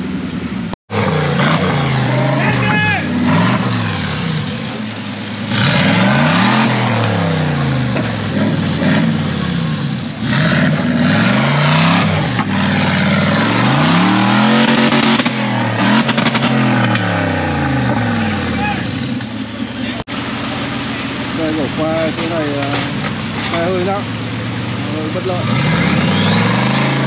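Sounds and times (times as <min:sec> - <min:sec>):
engine revving hard: 0:00.9 - 0:19.2, 0:19.8 - 0:27.0.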